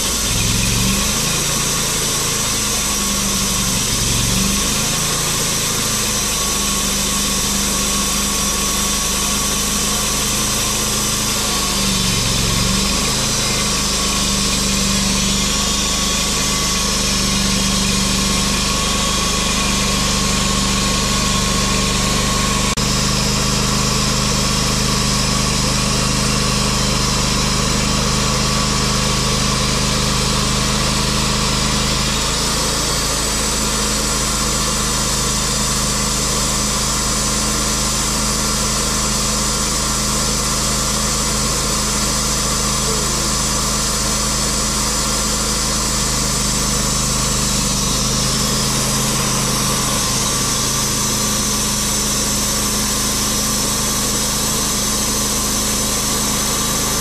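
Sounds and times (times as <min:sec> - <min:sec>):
sawmill engine running under load: 0:00.0 - 0:57.0.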